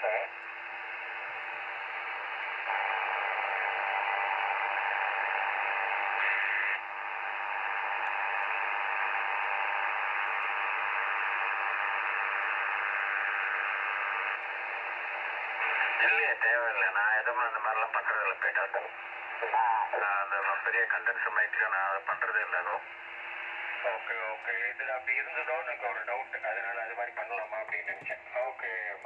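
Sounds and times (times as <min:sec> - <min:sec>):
radio receiver hiss: 0:00.0 - 0:29.0.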